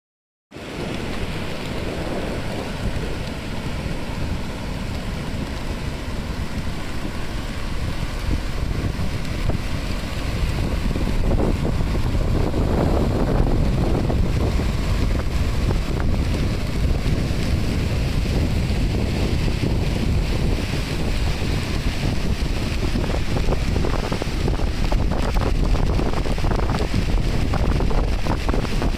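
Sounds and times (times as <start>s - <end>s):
surf breaking on beach: 0.5s - 28.9s
wind buffeting microphone: 0.6s - 28.9s.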